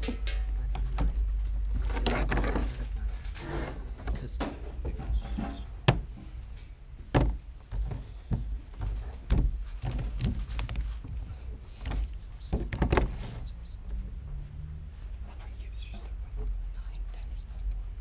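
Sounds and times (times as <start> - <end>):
low rumble of table: 0.0 - 16.6.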